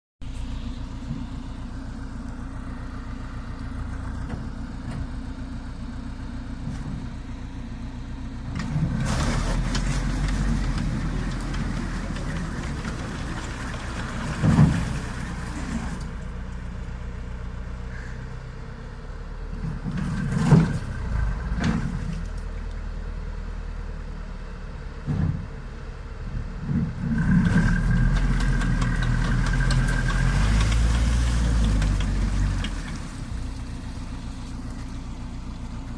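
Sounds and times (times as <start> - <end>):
vehicle engine running: 0.2 - 35.9.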